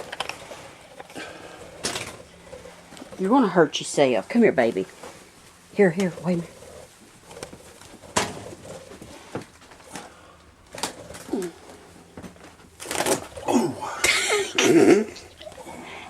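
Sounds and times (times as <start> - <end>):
rustling and wing flapping: 0.0 - 14.3.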